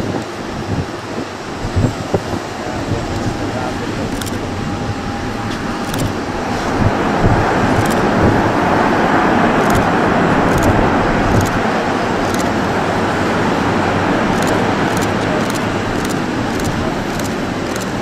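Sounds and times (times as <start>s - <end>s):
loud jet noise of landing airliner: 0.0s - 18.0s.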